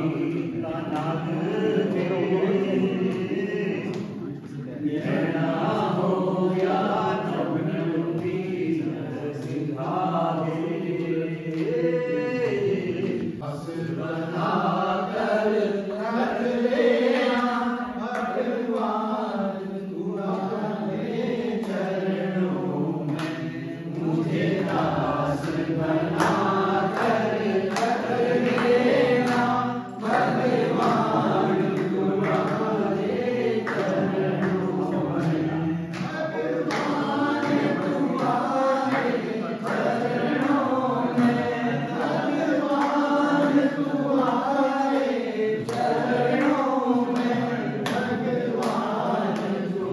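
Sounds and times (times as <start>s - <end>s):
hands clapping to beat: 0.0s - 15.3s, 16.1s - 19.3s, 20.2s - 49.9s
group of people singing: 0.0s - 49.9s.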